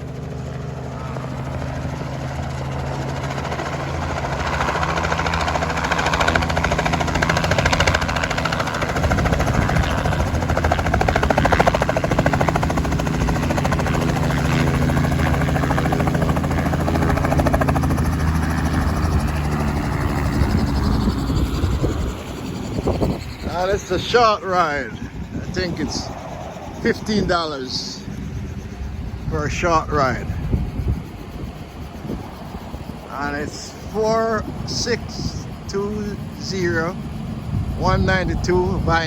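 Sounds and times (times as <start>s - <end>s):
helicopter engine drone: 0.0s - 39.0s
helicopter rotor chopping: 0.0s - 39.0s.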